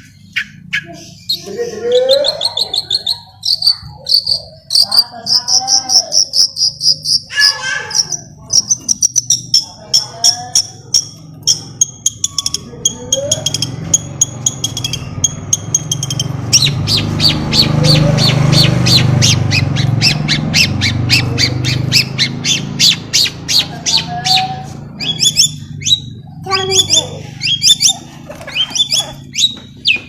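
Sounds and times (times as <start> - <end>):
bird harsh scratchy calls: 0.0 - 30.0
bird singing high chattering notes: 0.0 - 30.0.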